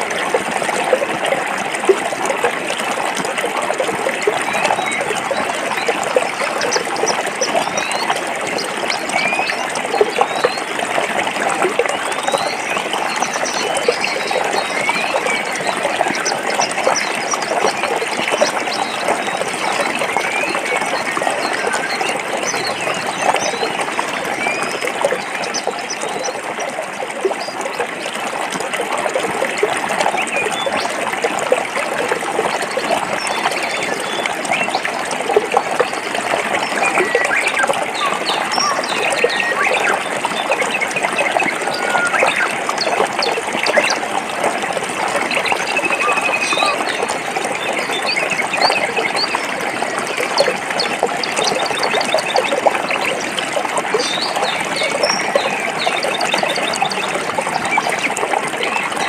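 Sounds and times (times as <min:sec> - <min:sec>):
high-pitched water plinks: 0:00.0 - 0:59.0
stream babbling over rocks: 0:00.0 - 0:59.0.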